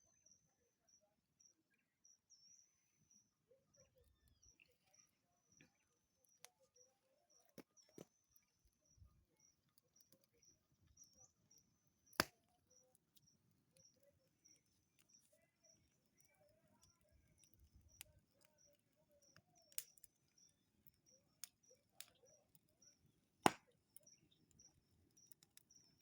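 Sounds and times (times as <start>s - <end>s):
faint insect chirping: 0.0s - 23.1s.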